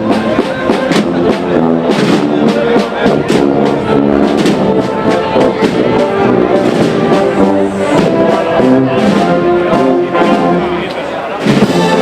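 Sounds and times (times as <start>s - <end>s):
brass band playing a march: 0.0s - 12.0s.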